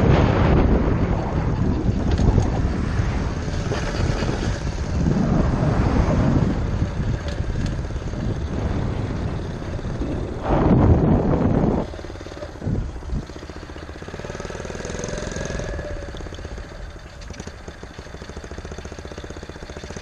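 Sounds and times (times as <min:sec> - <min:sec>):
wind rumble on microphone: 0:00.0 - 0:18.3
small gas engine running: 0:00.1 - 0:20.0.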